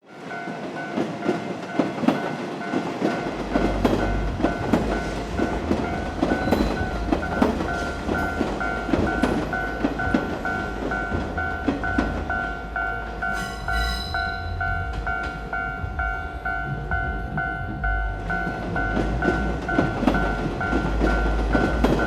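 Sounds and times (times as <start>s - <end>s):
level crossing warning bell ringing: 0.0s - 22.0s
train rumble: 0.0s - 22.0s
train wheels clacking over rail joints: 0.4s - 22.0s.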